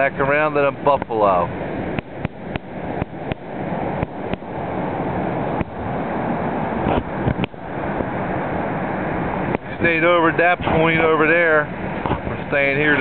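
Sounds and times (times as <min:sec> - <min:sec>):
moving water: 0:00.0 - 0:13.0
wind rushing over microphone: 0:00.0 - 0:13.0.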